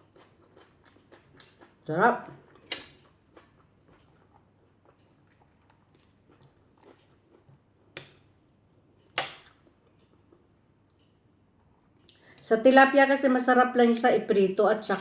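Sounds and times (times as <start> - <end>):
person chewing food: 0.0 - 12.4.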